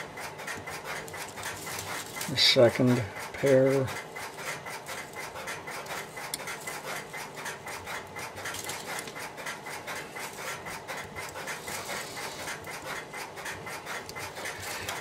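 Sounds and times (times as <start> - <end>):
wires scratching and rubbing: 0.0 - 15.0.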